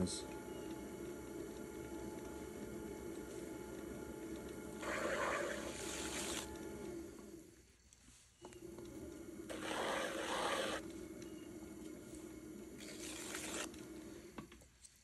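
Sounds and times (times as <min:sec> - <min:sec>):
pottery wheel motor humming: 0:00.0 - 0:07.8, 0:08.4 - 0:14.6.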